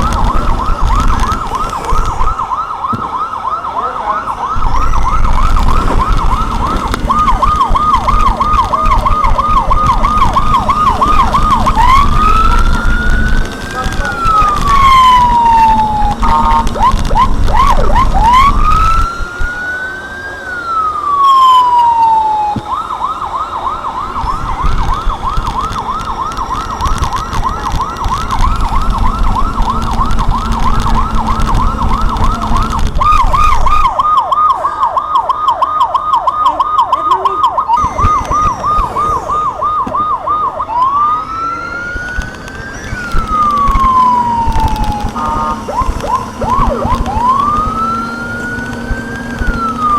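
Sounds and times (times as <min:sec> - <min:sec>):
electronic siren wailing and yelping: 0:00.0 - 0:49.9
low vehicle rumble: 0:00.0 - 0:49.9.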